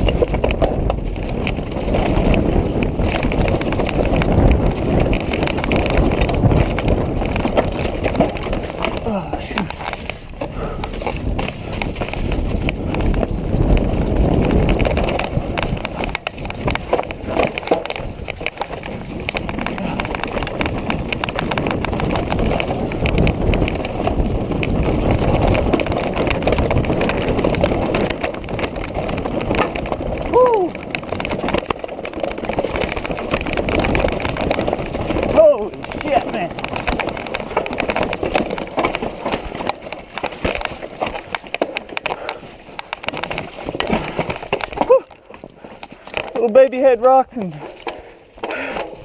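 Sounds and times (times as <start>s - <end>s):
bike rattling and knocking: 0.0s - 49.0s
tyres crunching over rocks and leaves: 0.0s - 49.0s.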